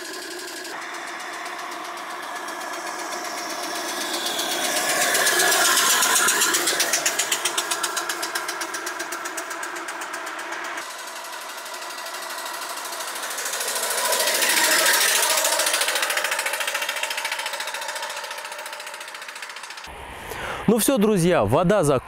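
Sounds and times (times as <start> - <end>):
steam engine chuffing: 0.0 - 19.9.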